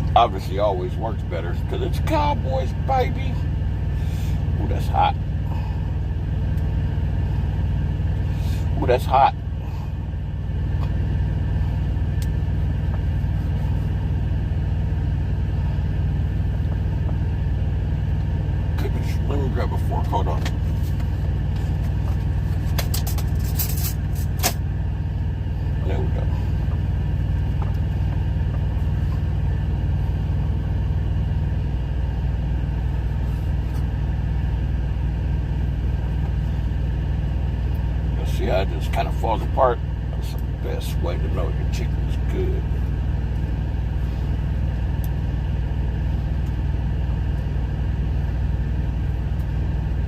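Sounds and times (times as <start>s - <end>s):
truck engine idling: 0.0s - 50.0s.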